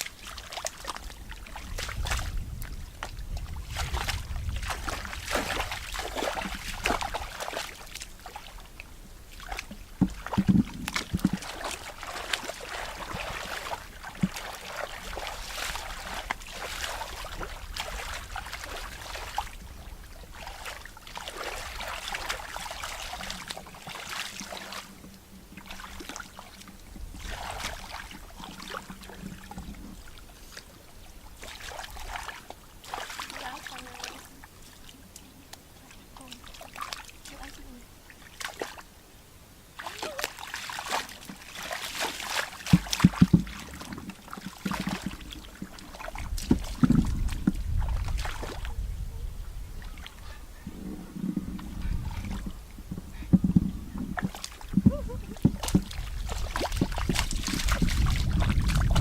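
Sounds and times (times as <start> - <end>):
faint steady hum: 0.0 - 59.0
water splashing and sloshing: 0.0 - 59.0.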